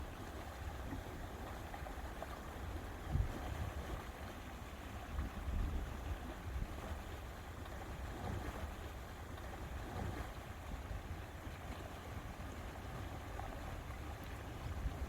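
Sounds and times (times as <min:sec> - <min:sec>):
lake water lapping: 0:00.0 - 0:15.0.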